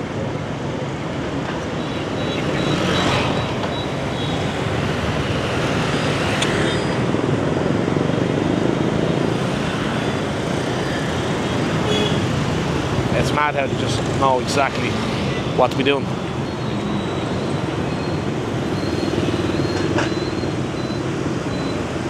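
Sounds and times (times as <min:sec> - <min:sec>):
scooters and motorbikes passing: 0:01.0 - 0:22.0.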